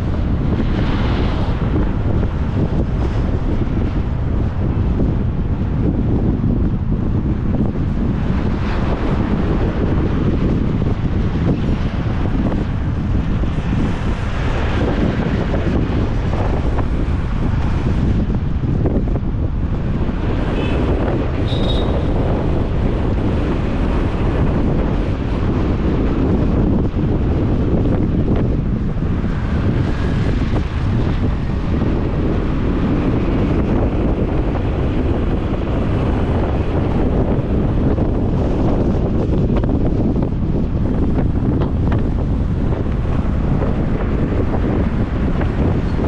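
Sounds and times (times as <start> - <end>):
motorbike engine and road noise: 0.0 - 46.0
wind buffeting microphone: 0.0 - 46.0.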